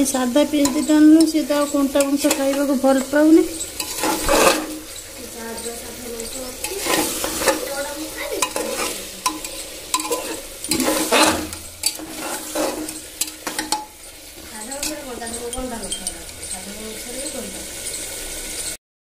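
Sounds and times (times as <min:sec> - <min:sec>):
frying sizzle: 0:00.0 - 0:18.8
metal spatula scraping a pot: 0:00.0 - 0:18.8.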